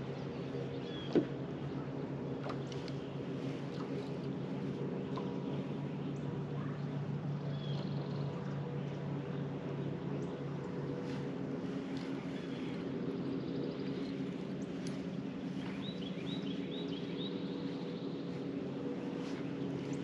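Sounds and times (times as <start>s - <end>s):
electric trolling motor hum: 0.0s - 20.0s.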